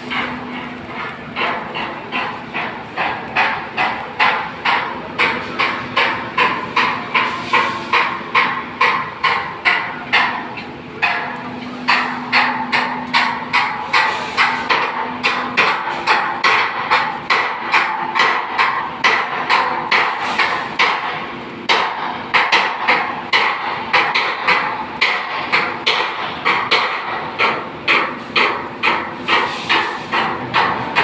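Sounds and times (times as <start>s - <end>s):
hammer striking metal: 0.1s - 31.0s.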